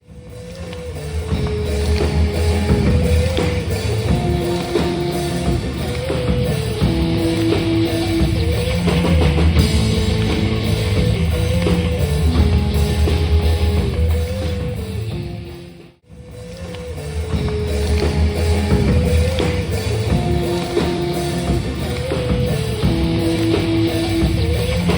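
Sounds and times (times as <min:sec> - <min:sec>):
rock music with drums and guitar: 0:00.0 - 0:24.9.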